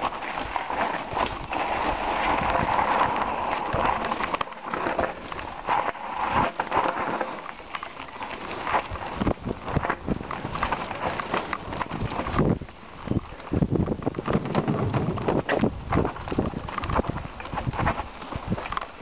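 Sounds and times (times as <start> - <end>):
bike rattling and knocking: 0.0 - 19.0
tyres rolling over dirt: 0.0 - 19.0.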